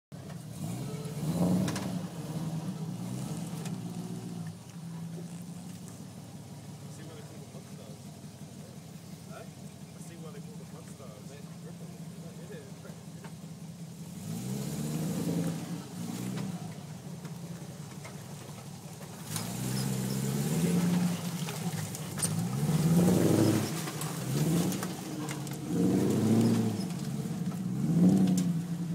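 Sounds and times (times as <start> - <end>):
truck engine revving: 0.1 - 28.9.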